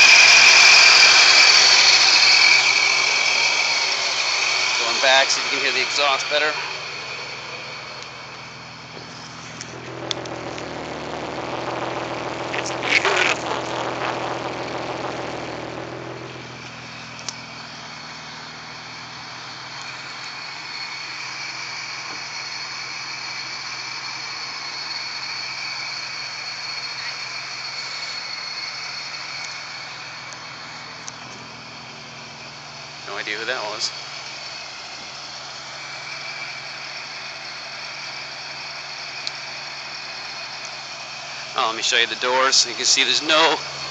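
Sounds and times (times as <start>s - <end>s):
car engine revving and idling: 0.0s - 43.9s.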